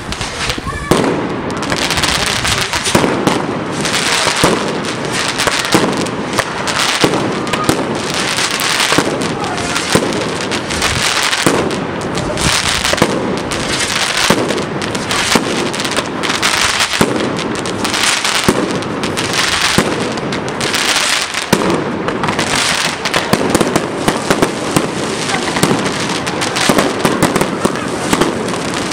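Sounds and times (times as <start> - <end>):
fireworks bangs and crackle: 0.0 - 28.9.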